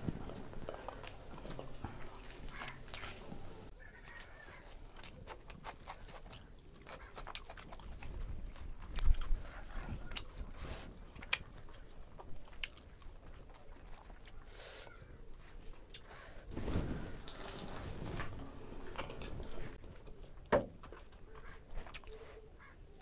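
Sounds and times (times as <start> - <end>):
wet chewing and mouth clicks: 0.0 - 22.8.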